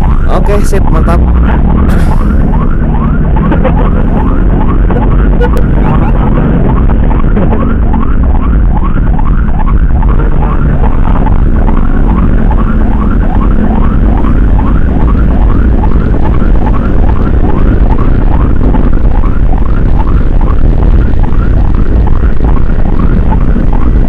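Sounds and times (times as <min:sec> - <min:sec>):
emergency siren yelping: 0:00.0 - 0:24.0
steady low rumble: 0:00.0 - 0:24.0.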